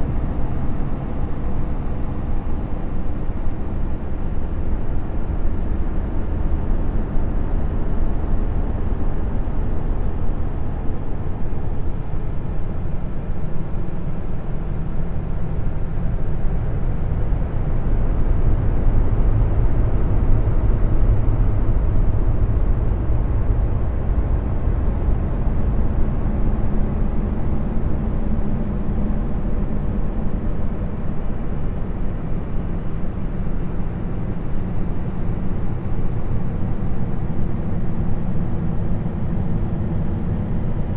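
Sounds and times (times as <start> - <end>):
low rumbling drone: 0.0 - 40.9.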